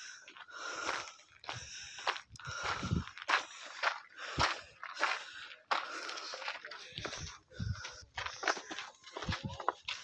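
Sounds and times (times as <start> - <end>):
footsteps on concrete: 0.0 - 10.0.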